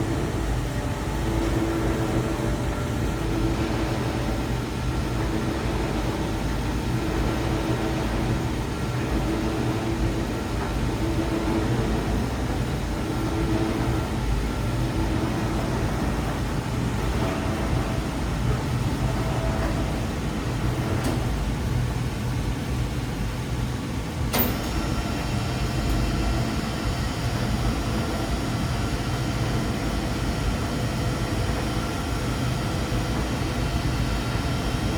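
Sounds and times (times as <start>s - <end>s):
tumble dryer humming: 0.0s - 34.9s.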